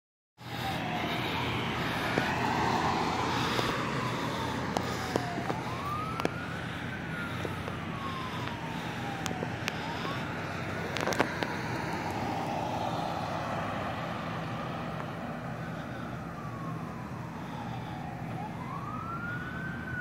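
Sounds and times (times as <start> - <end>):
fire engine siren wailing: 0.4 - 20.0
truck engine drone: 0.4 - 20.0.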